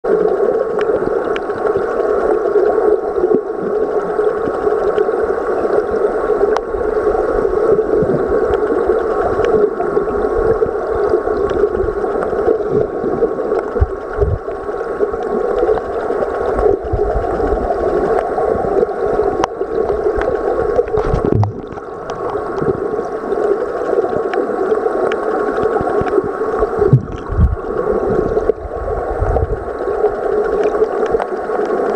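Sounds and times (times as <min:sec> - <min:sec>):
underwater river rush: 0:00.0 - 0:31.9.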